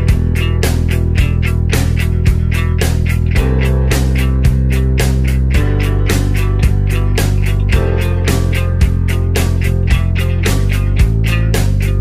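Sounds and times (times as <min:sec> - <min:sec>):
distorted rock guitar: 0:00.0 - 0:12.0
held bass notes: 0:00.0 - 0:12.0
steady drum beat: 0:00.0 - 0:12.0.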